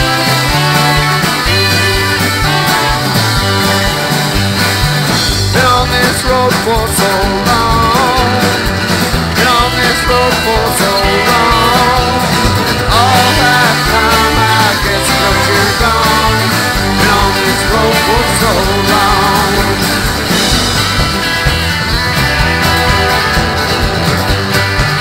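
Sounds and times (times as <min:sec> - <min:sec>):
acoustic guitar strumming: 0:00.0 - 0:25.0
bass and drums: 0:00.0 - 0:25.0
lead melody line: 0:00.0 - 0:25.0.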